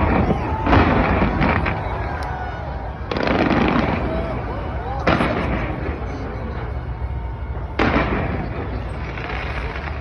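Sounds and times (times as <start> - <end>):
continuous low rumbling: 0.0 - 10.0
faint voices: 0.0 - 10.0
fireworks bangs: 0.0 - 10.0.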